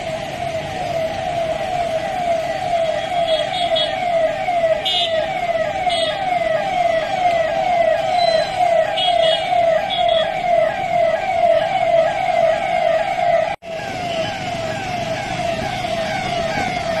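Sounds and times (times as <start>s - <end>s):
police siren: 0.0s - 17.0s.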